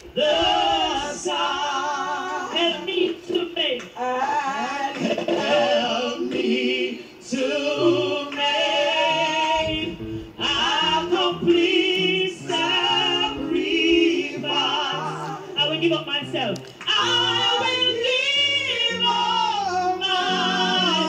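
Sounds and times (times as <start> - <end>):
woman singing gospel: 0.0 - 21.0.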